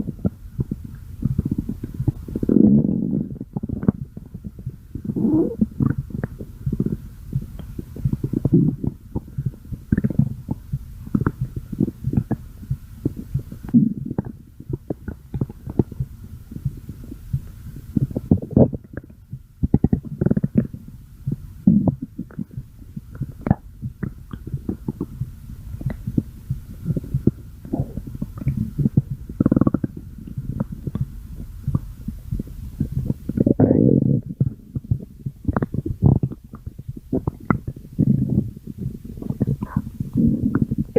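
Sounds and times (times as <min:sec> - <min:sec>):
stomach growling: 0:00.0 - 0:40.9.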